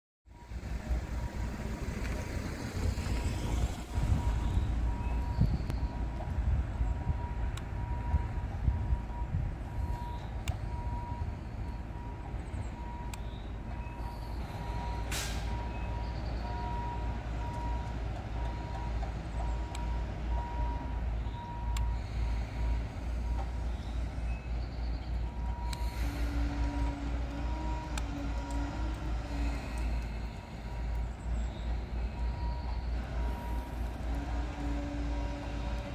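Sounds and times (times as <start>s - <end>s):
truck backup alarm beeping: 0.3s - 1.8s, 3.9s - 35.9s
low engine rumble: 0.3s - 35.9s.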